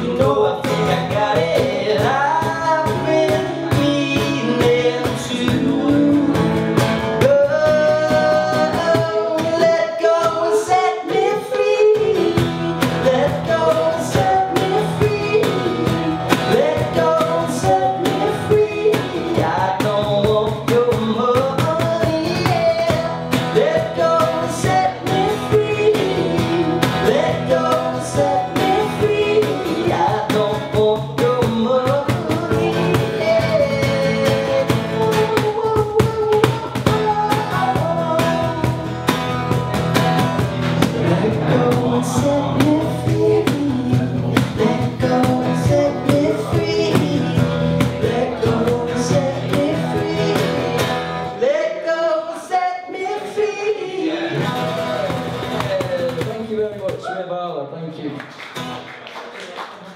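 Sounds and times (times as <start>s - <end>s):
two men singing in harmony: 0.0s - 38.9s, 40.8s - 55.5s
acoustic guitar: 0.0s - 57.4s, 58.2s - 59.9s.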